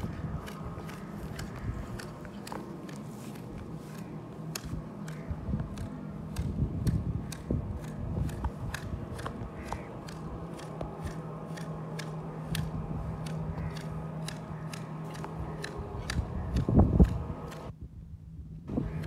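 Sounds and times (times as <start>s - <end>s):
hedge shears snipping: 0.0s - 17.7s
low steady hum: 0.0s - 19.0s.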